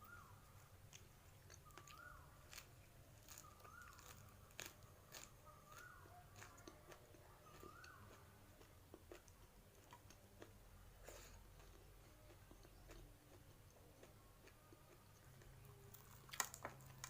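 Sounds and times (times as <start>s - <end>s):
person chewing crunchy food: 0.9s - 17.0s.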